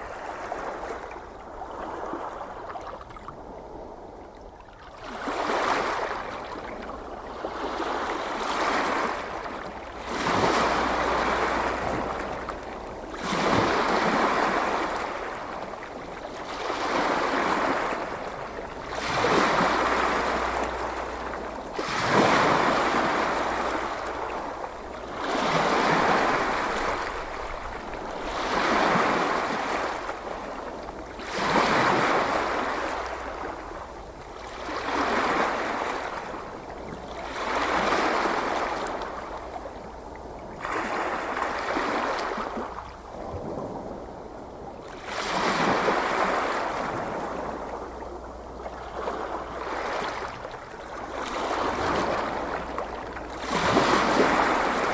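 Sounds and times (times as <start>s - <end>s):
ocean waves breaking on shore: 0.0s - 54.9s.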